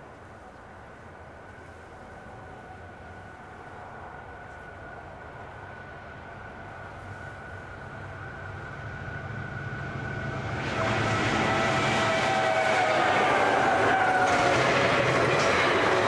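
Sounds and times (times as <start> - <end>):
locomotive engine drone with whine: 0.0 - 16.0
wheel and rail noise: 0.0 - 16.0.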